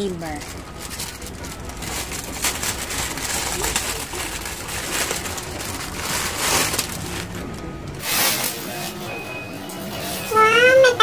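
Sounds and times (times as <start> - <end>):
packaging rustling and crinkling: 0.0 - 9.1.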